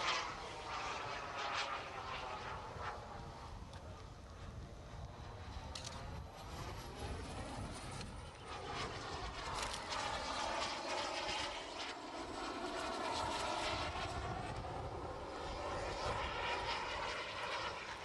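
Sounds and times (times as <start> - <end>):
model jet turbine engines whining: 0.0 - 18.0.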